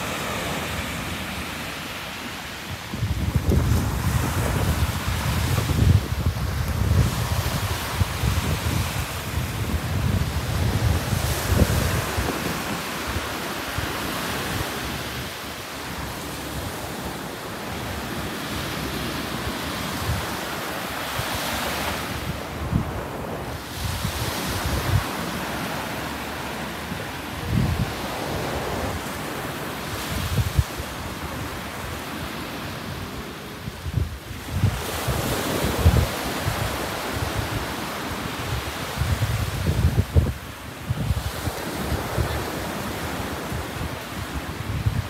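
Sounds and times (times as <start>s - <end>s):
small surf breaking on beach: 0.0s - 45.0s
wind buffeting microphone: 0.0s - 45.0s.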